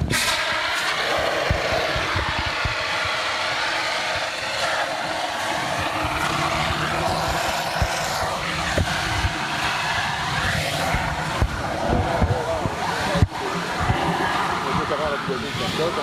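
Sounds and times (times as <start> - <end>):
fire extinguishers hissing: 0.0 - 16.0.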